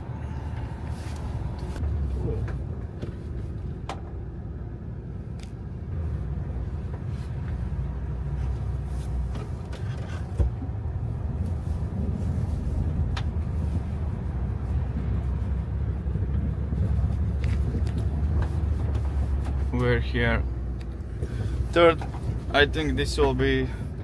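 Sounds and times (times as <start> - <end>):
car driving rumble: 0.0 - 24.0.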